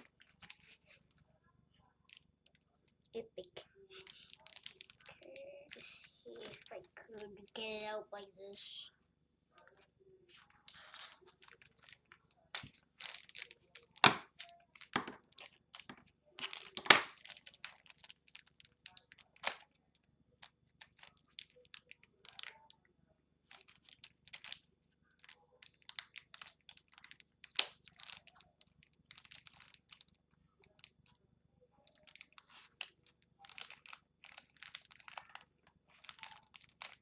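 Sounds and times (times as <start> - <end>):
plastic packaging crinkling: 0.0 - 1.2, 2.0 - 7.9, 9.6 - 19.8, 20.4 - 22.8, 23.5 - 31.1, 31.8 - 37.0.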